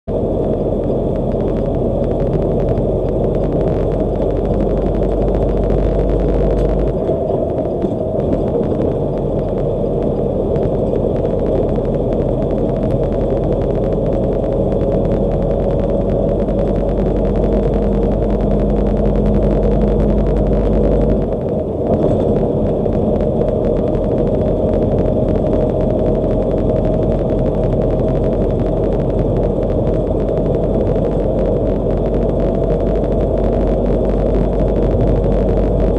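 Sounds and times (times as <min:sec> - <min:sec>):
car driving at highway speed: 0:00.0 - 0:35.9.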